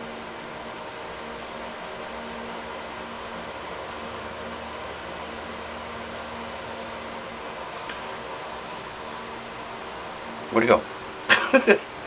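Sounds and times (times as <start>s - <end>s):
faint constant hum: 0.0s - 12.0s.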